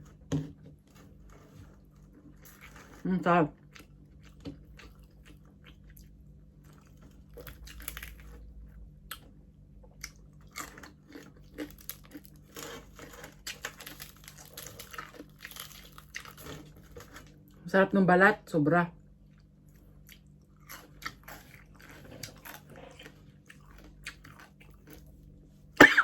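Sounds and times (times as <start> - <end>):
person chewing crispy food: 0.8 - 17.6, 19.0 - 25.8.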